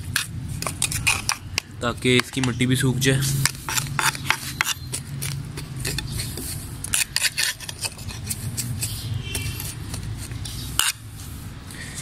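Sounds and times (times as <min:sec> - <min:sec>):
trowel scraping through soil: 0:00.0 - 0:01.5, 0:03.2 - 0:11.4.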